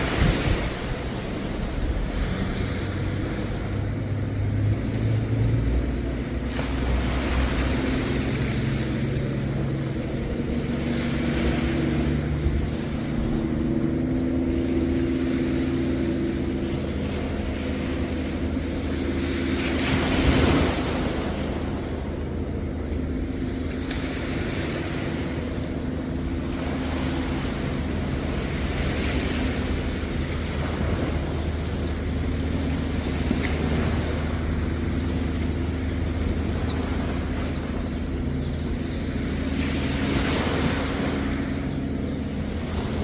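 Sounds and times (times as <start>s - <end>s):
low engine drone: 0.0s - 43.0s
waves washing onto beach: 0.0s - 43.0s.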